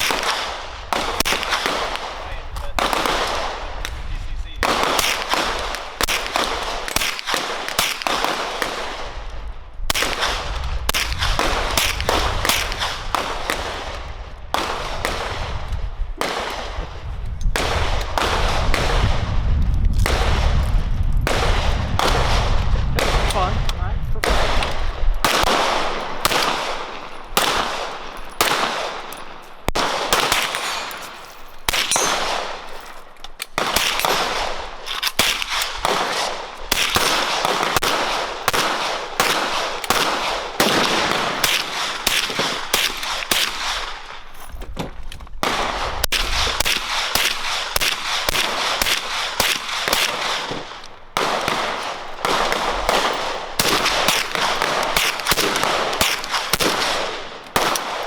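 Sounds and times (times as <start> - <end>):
gunshots: 0.0 - 44.4, 45.4 - 58.0.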